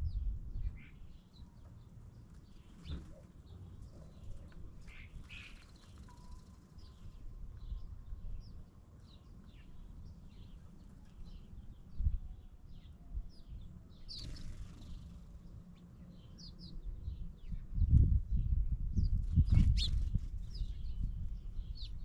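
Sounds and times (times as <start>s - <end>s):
low wind-like rumble: 0.0s - 22.0s
small birds chirping: 0.0s - 22.0s.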